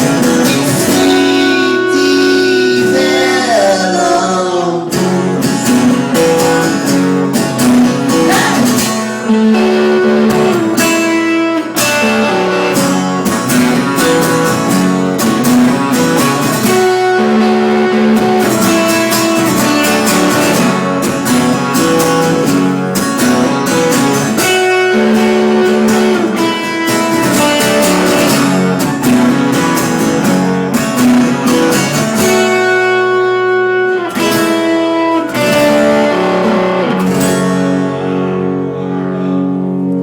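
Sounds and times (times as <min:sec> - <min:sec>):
blues guitar playing: 0:00.0 - 0:40.0.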